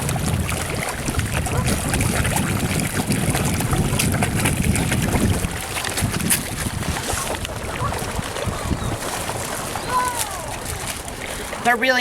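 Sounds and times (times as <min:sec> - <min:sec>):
wind rumble on microphone: 0:00.0 - 0:11.8
fish splashing at water surface: 0:00.0 - 0:12.0.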